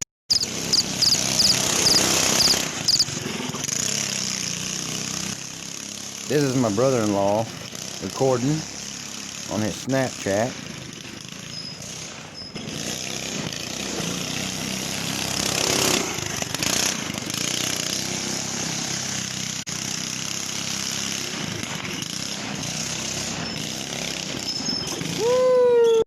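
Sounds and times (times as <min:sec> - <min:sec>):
go-kart engine running: 0:00.3 - 0:25.5.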